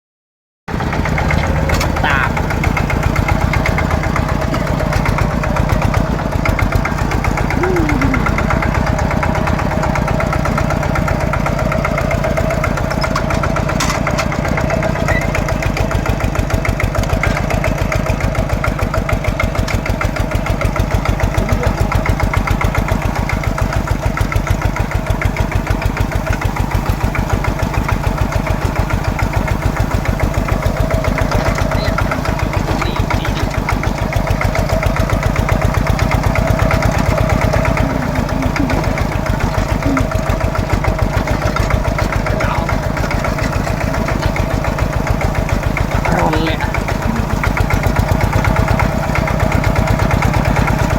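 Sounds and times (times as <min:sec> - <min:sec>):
tractor engine running: 0:00.7 - 0:50.9.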